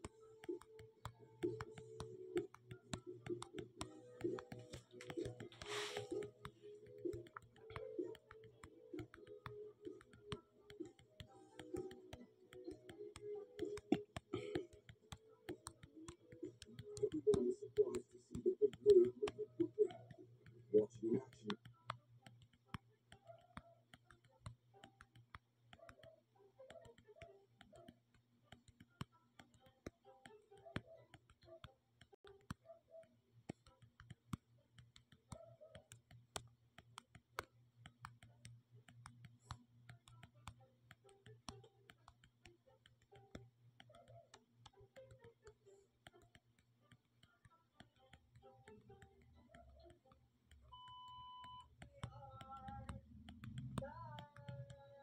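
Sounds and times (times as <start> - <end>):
fingertip taps on touchscreen: 0.0 - 55.0.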